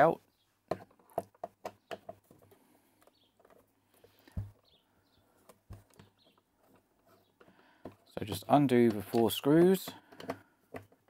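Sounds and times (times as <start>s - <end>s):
plastic case handling: 0.7s - 4.8s, 5.4s - 11.0s.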